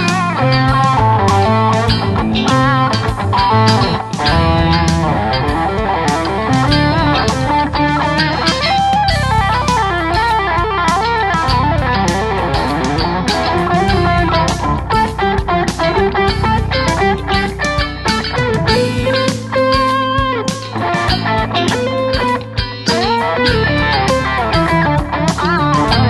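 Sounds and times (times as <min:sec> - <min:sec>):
electric guitar melodic runs: 0:00.0 - 0:26.0
rock backing with bass and drums: 0:00.0 - 0:26.0.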